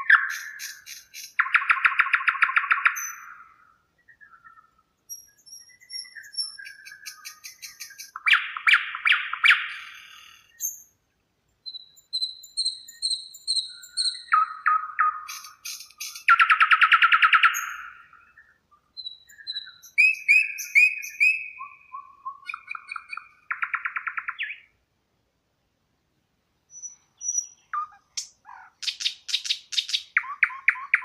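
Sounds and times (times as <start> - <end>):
songbird trills: 0.0 - 24.8, 26.6 - 31.0.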